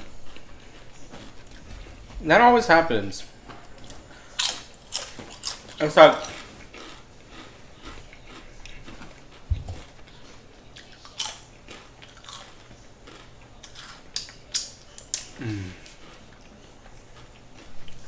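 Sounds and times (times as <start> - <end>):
man chewing a sandwich: 0.0 - 2.2, 3.2 - 18.0.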